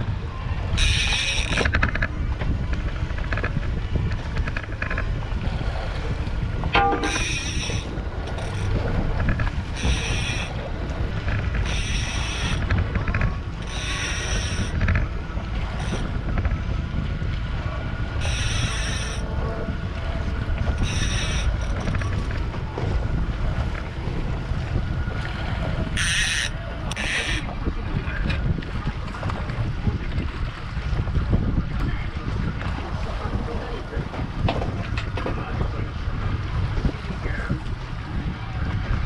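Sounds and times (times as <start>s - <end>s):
outboard motor running: 0.0s - 39.0s
wind buffeting microphone: 0.0s - 39.0s.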